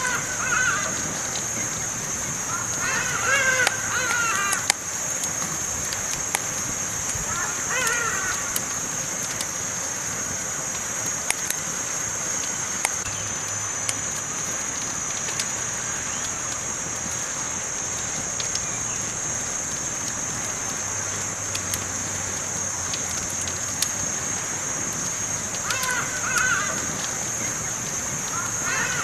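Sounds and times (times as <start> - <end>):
campfire crackling pops: 0.0 - 29.0
campfire hissing: 0.0 - 29.0.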